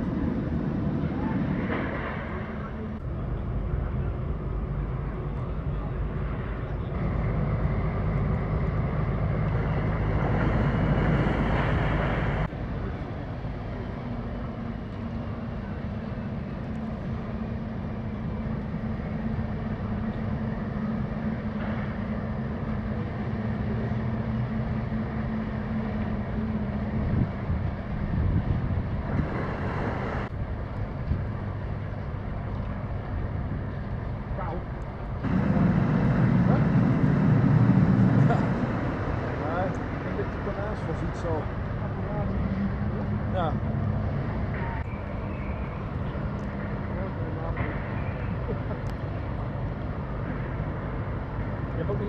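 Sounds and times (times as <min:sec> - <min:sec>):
patrol boat engine passing: 0:00.0 - 0:52.0
tugboat engine droning hum: 0:00.0 - 0:52.0.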